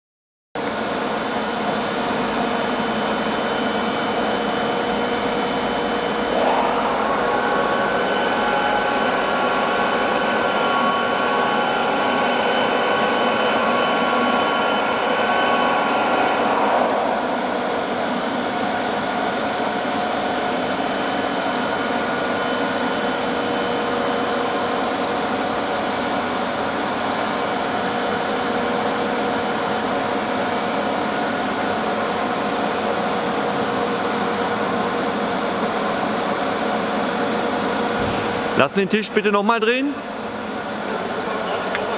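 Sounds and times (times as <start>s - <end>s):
machine drive whine: 0.6s - 32.8s, 37.2s - 41.9s
machine hum and hiss: 0.6s - 41.9s.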